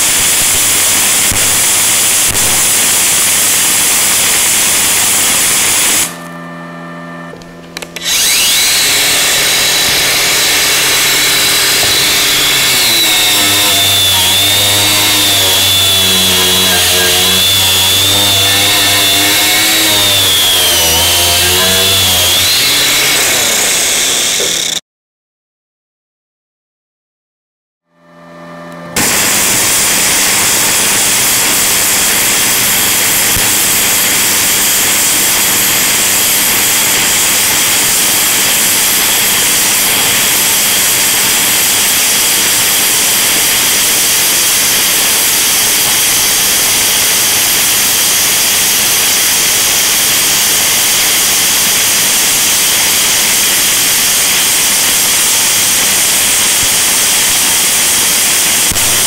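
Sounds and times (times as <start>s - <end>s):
welding arc sizzling: 0.0s - 6.2s, 7.8s - 24.7s, 29.0s - 59.0s.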